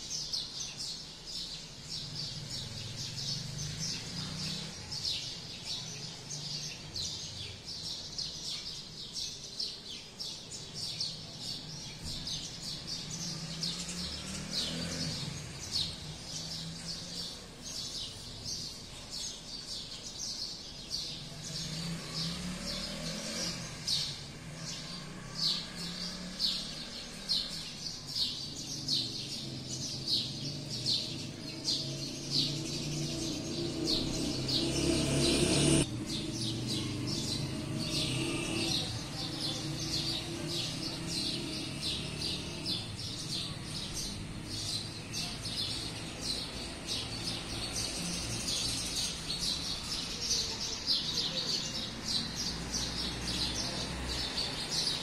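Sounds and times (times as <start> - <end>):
distant traffic: 0.0 - 55.0
small birds chirping: 0.0 - 55.0.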